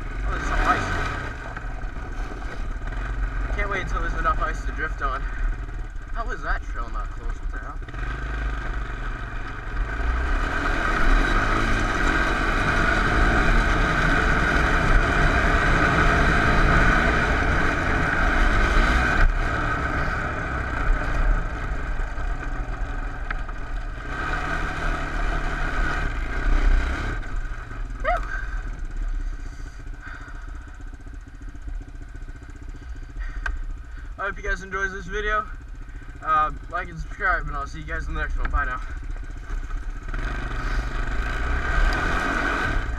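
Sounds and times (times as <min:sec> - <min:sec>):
four-wheeler engine revving: 0:00.0 - 0:42.9.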